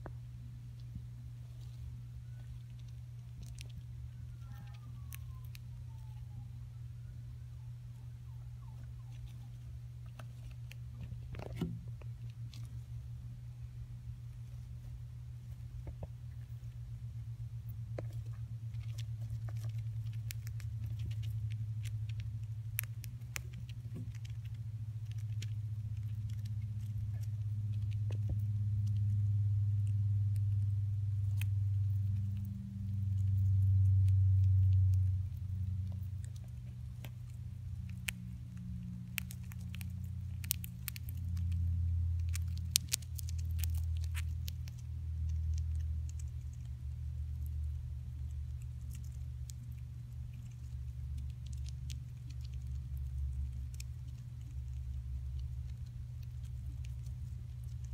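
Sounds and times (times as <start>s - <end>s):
hamster nibbling seeds: 0.0s - 57.9s
low hum: 0.0s - 57.9s.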